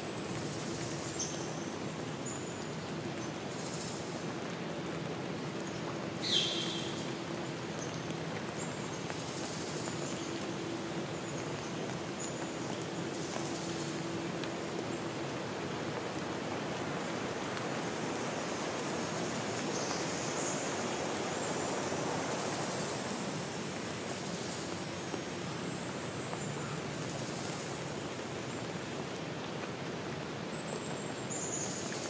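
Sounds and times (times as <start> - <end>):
steady rushing woodland ambience: 0.0 - 32.0.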